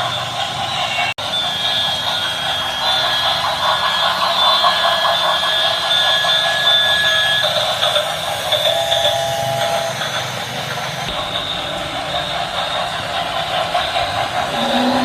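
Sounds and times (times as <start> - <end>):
train mechanical noise: 0.0 - 15.0
high whining tones: 1.3 - 15.0.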